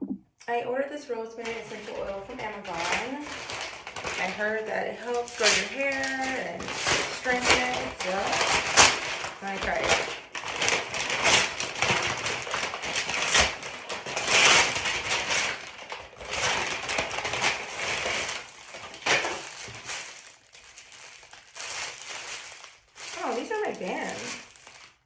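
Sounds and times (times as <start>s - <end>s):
packaging crinkling and rustling: 1.4s - 25.0s.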